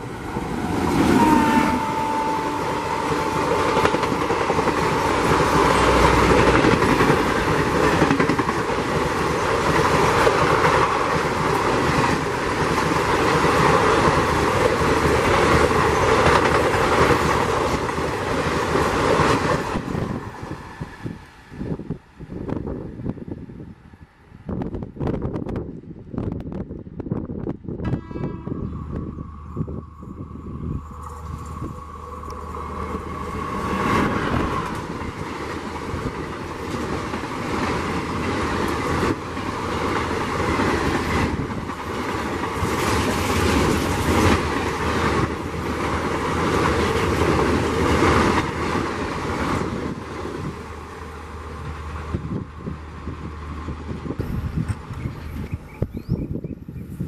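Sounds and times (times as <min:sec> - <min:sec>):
train wheels rushing on rail: 0:00.0 - 0:57.0.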